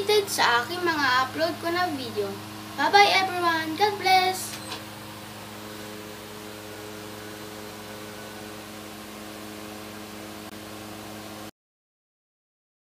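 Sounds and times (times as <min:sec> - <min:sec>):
electrical hum: 0:00.0 - 0:11.5.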